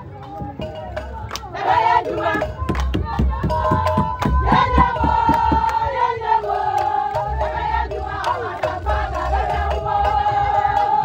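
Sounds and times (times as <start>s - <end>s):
crowd of voices: 0.0s - 11.0s
voices singing and wailing: 1.4s - 11.0s.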